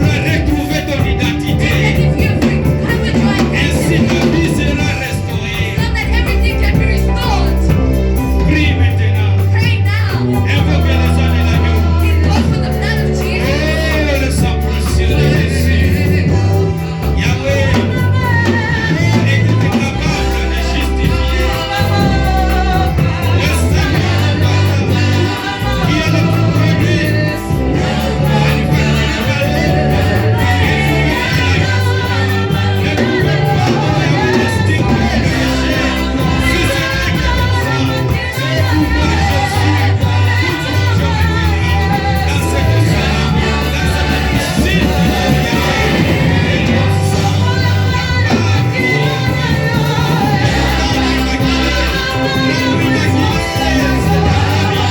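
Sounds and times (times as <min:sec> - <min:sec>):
heavy bass line: 0:00.0 - 0:54.9
voices singing worship music: 0:00.0 - 0:54.9.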